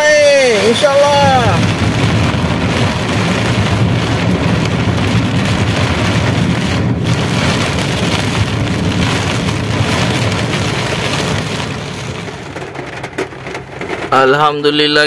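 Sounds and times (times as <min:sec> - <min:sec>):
heavy rain on car roof: 0:00.0 - 0:15.0
low rumble of moving car: 0:00.0 - 0:15.0.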